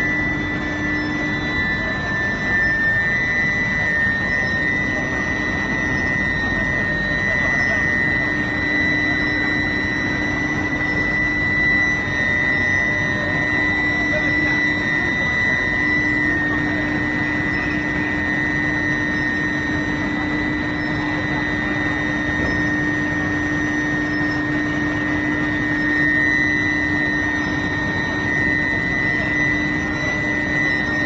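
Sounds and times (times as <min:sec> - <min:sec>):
high-pitched machine whine: 0:00.0 - 0:31.0
low steady hum: 0:00.0 - 0:31.0.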